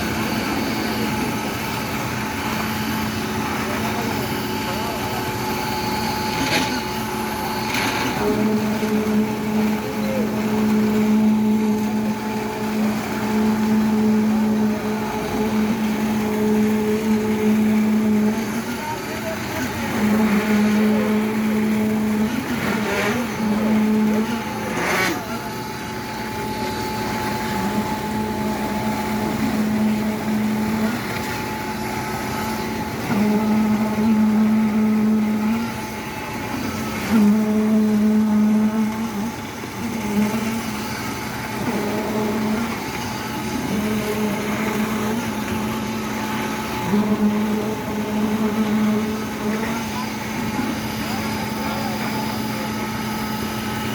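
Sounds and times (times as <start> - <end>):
concrete pump humming: 0.0 - 53.9
low machine tone: 0.0 - 53.9.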